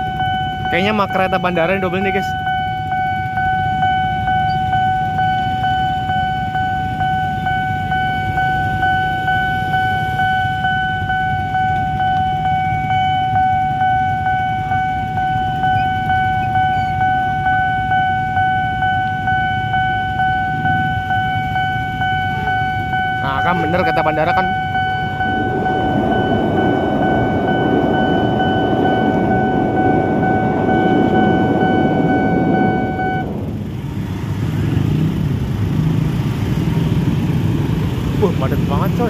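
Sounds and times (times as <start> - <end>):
level crossing warning bell: 0.0 - 33.8.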